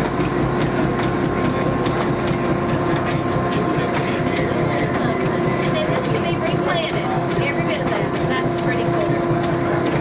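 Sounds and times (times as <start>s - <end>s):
machinery clattering: 0.0s - 10.0s.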